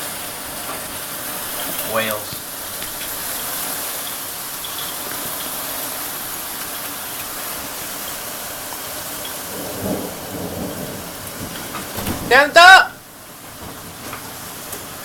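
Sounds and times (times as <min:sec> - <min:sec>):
heavy rain and hail: 0:00.0 - 0:15.0.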